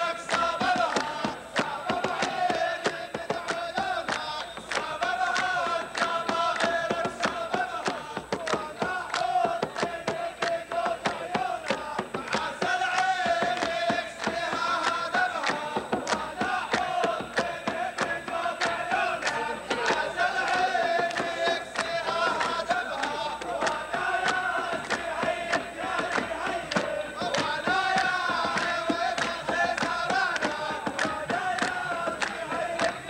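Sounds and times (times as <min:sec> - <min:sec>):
audience clapping along: 0:00.0 - 0:33.0
group singing: 0:00.0 - 0:33.0.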